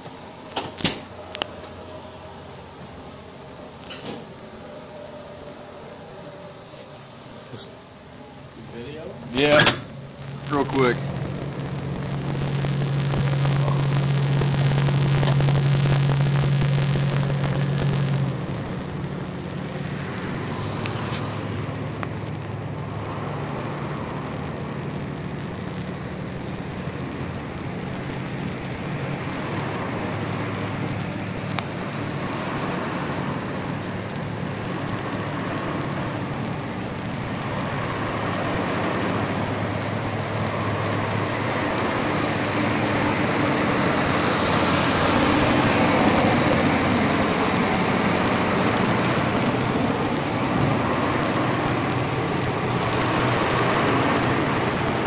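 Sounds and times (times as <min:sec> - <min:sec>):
broad rushing noise: 0:00.0 - 0:55.0
low machinery drone: 0:00.0 - 0:55.0.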